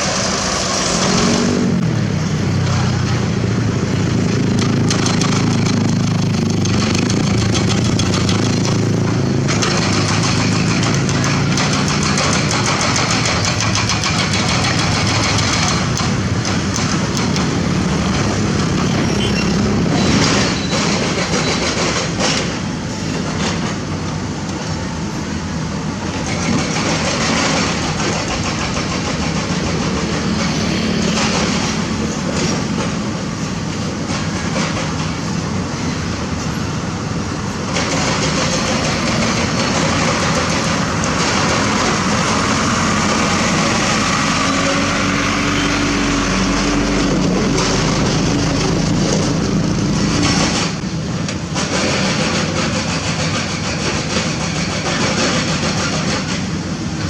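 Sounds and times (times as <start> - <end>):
diesel machinery running: 0.0 - 57.0.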